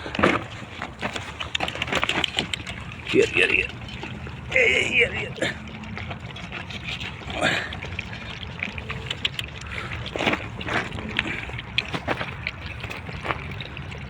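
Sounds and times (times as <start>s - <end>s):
puppies lapping milk from metal platters: 0.0s - 14.0s.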